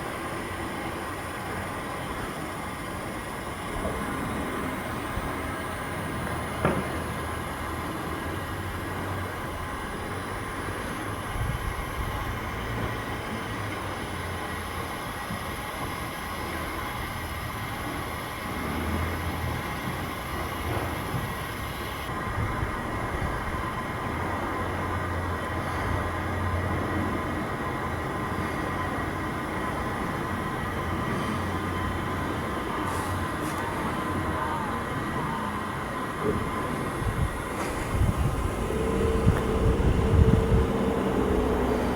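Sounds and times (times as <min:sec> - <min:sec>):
faint whining tones: 0:00.0 - 0:41.9
heavy machinery drone: 0:00.0 - 0:41.9.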